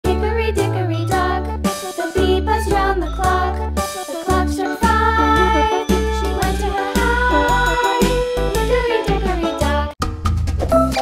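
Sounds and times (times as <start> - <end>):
upbeat children's jingle: 0.0 - 10.0.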